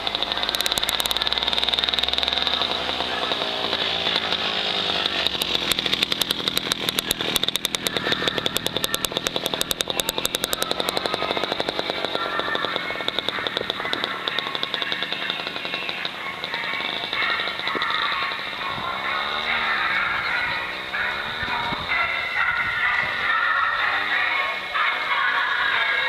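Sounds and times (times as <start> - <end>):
racing motorcycle engines: 0.0 - 26.0
rapid pulsing: 0.0 - 26.0.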